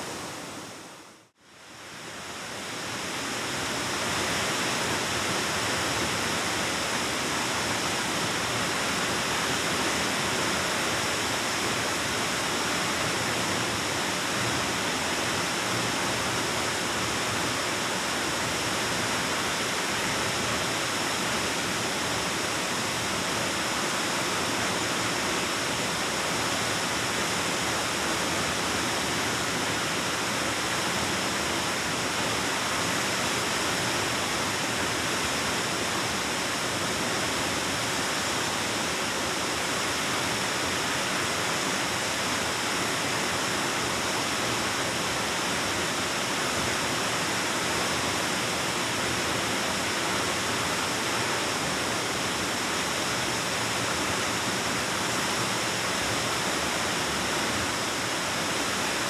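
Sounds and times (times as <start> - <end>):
waterfall roaring in cave: 0.0 - 59.0.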